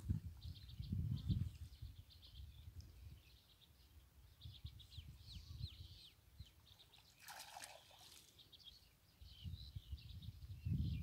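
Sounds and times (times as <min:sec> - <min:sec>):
faint bird chirps: 0:00.3 - 0:11.0.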